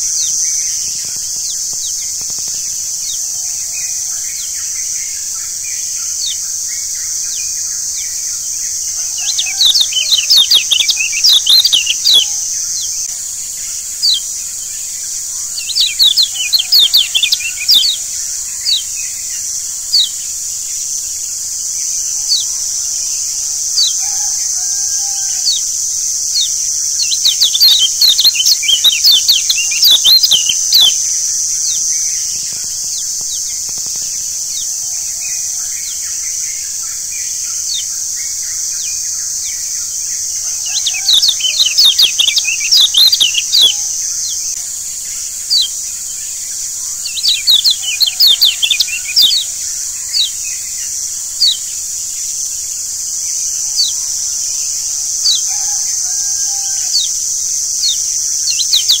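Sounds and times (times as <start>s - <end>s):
bird chirping: 0.0s - 59.0s
high hiss: 0.0s - 59.0s.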